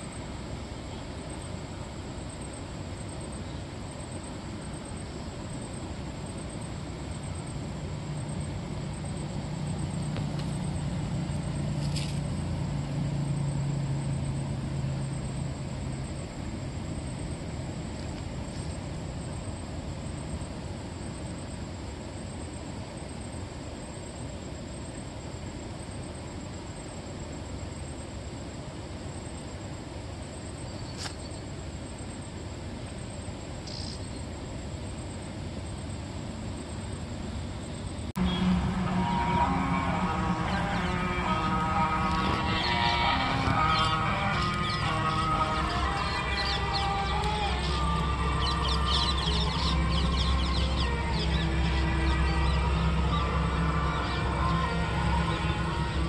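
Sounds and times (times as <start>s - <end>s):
high insect trill: 0.0s - 56.0s
low engine hum: 0.0s - 56.0s
outdoor background noise: 0.0s - 56.0s.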